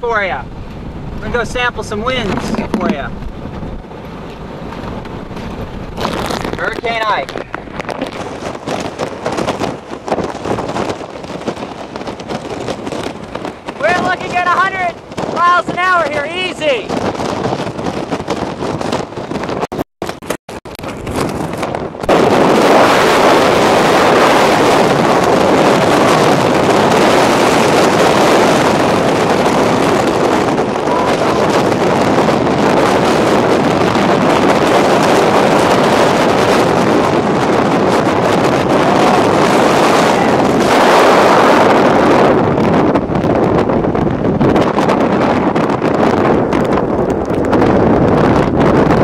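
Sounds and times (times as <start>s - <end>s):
strong wind on microphone: 0.0s - 49.0s.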